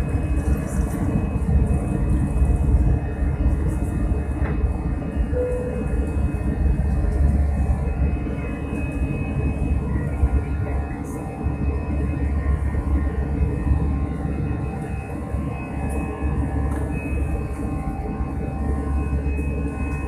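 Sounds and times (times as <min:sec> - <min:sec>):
airliner rolling rumble: 0:00.0 - 0:20.0
faint jet engine whine: 0:00.0 - 0:20.0.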